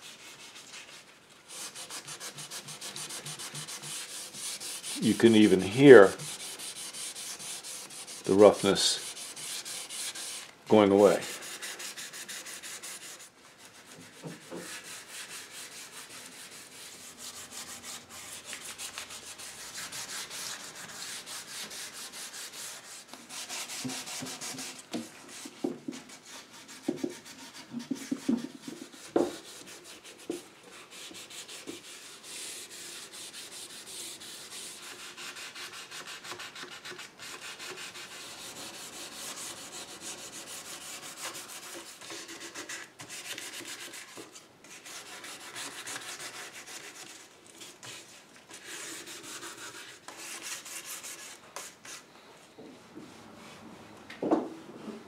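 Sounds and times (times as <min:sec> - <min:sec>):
sandpaper rasping on wood: 0:00.0 - 0:52.0.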